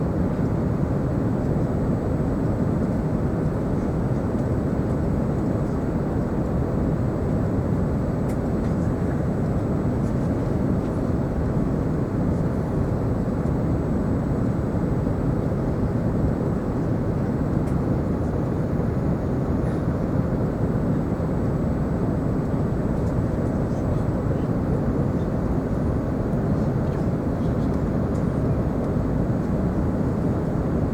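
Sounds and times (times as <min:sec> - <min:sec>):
airliner cabin engine rumble: 0:00.1 - 0:30.9.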